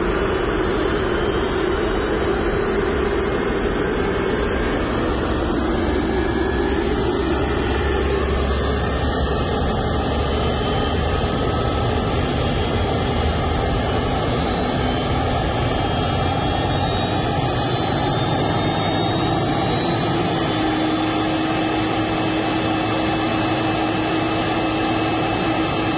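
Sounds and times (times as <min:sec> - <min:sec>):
jet engine rushing noise: 0:00.0 - 0:25.9
jet engine whines rising: 0:00.0 - 0:25.9
mid-pitched hum: 0:00.0 - 0:25.9.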